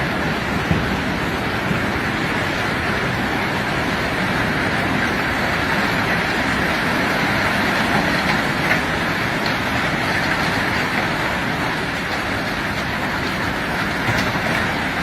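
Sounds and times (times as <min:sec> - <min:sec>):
rock being unloaded rattling: 0:00.1 - 0:15.0.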